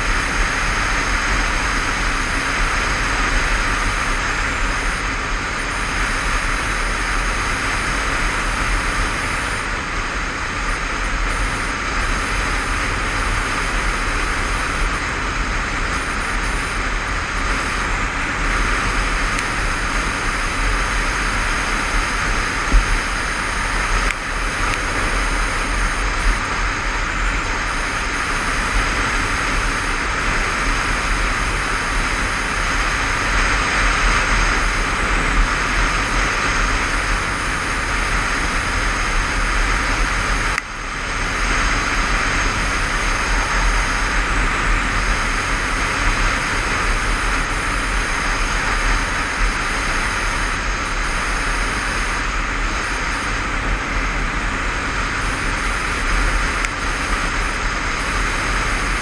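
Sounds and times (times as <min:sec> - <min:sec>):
motorcycle engine and road noise: 0:00.0 - 0:59.0
wind rushing over microphone: 0:00.0 - 0:59.0.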